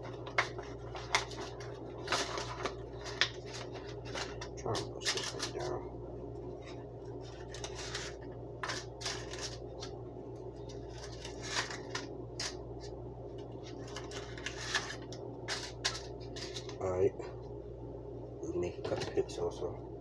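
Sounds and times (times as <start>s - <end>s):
foil tin and paper crinkling: 0.0s - 5.8s, 6.5s - 17.0s
steady low hum: 0.0s - 20.0s.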